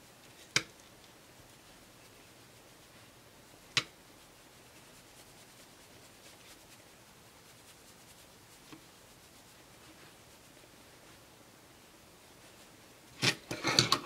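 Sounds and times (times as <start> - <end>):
faint brush swishing on skin: 0.0 - 13.6.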